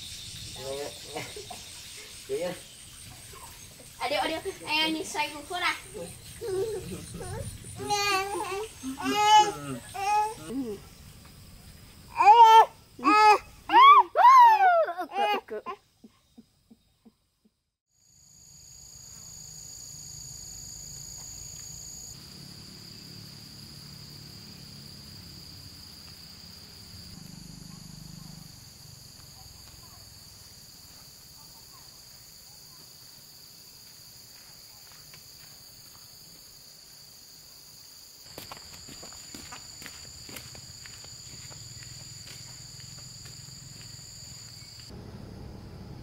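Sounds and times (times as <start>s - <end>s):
insects trilling: 0.0s - 17.2s, 17.9s - 45.5s.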